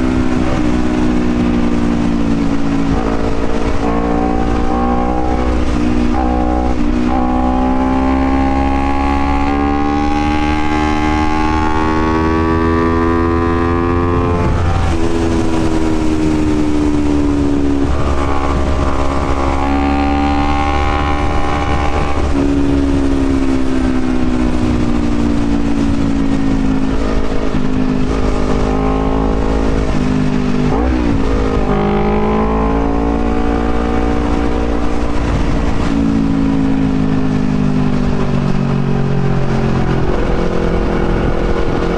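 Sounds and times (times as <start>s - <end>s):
low engine rumble: 0.0s - 41.9s
motorcycle engine revving: 0.0s - 41.9s.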